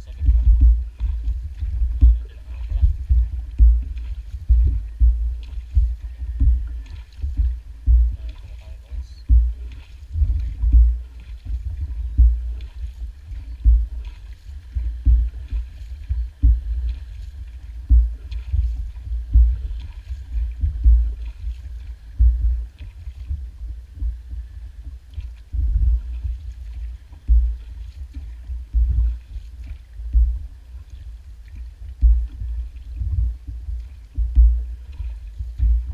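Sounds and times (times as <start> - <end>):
low rumble: 0.0 - 35.9
paddle strokes in water: 0.0 - 35.9
water thumping against hull: 0.0 - 35.9.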